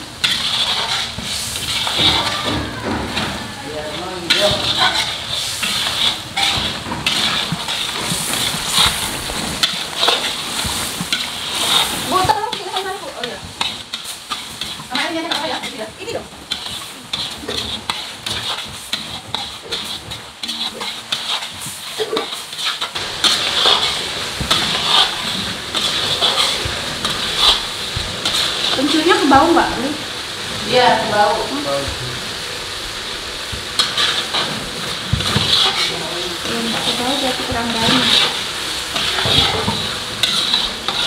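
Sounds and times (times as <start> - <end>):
metal spatula scraping wok: 0.0 - 29.8, 33.7 - 41.0
spice paste sizzling in wok: 0.0 - 41.0.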